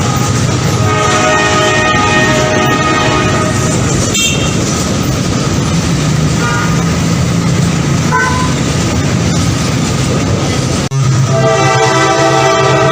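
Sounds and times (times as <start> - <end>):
train rumbling past: 0.0 - 12.9.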